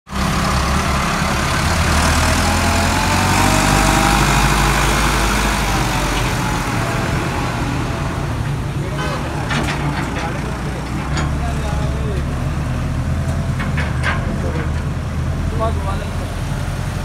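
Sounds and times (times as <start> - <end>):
tractor diesel engine running: 0.1 - 17.0.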